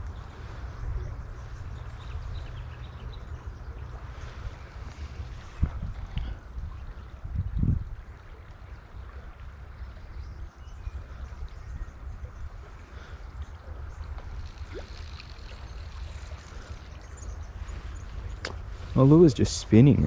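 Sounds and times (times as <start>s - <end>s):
creek water running: 0.0s - 20.0s
wind rumbling on microphone: 0.0s - 20.0s.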